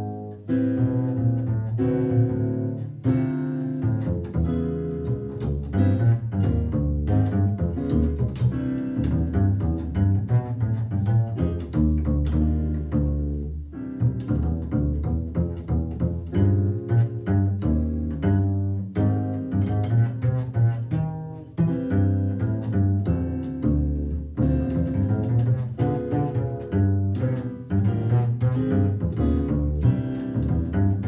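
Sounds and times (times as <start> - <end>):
instrumental jazz: 0.0 - 31.0
plucked double bass: 0.0 - 31.0.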